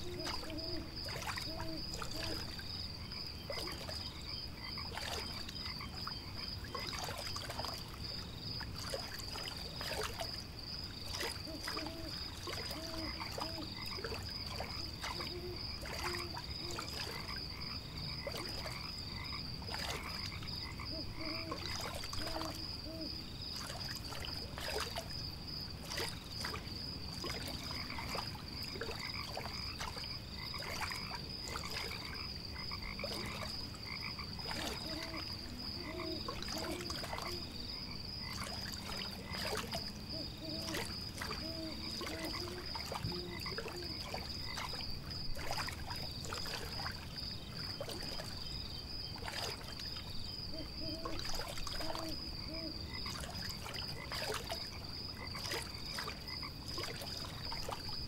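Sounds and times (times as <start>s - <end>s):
frogs croaking: 0.0s - 58.0s.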